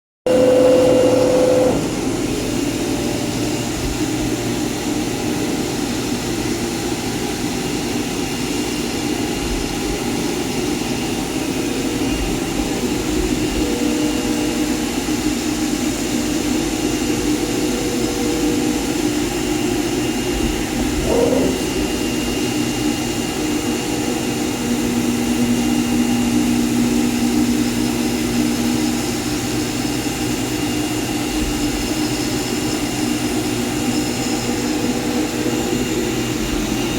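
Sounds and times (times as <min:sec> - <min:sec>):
cutting machine whirring: 0:00.2 - 0:36.9
rising machine whine: 0:00.2 - 0:36.9.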